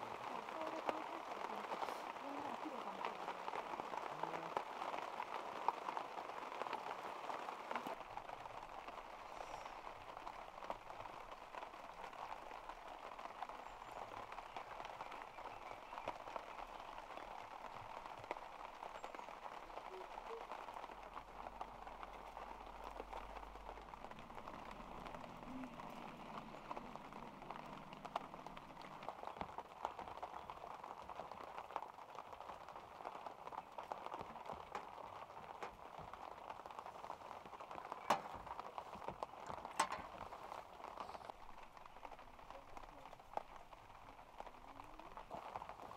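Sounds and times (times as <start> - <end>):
light rain pattering: 0.0 - 45.9.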